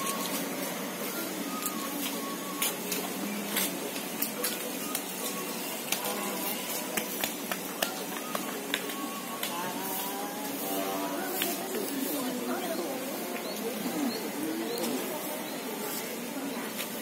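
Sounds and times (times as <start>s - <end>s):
faint distant voices: 0.0s - 17.0s.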